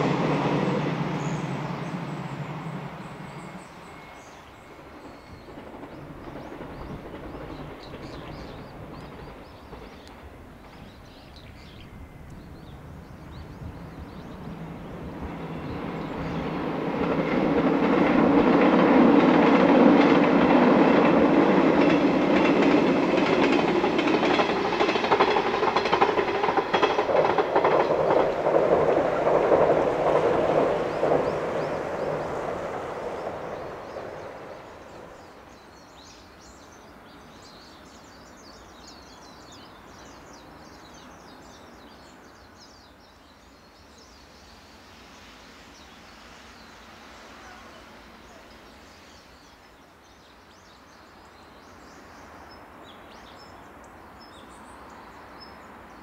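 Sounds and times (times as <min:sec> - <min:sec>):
train passing on rails: 0:00.0 - 0:56.0.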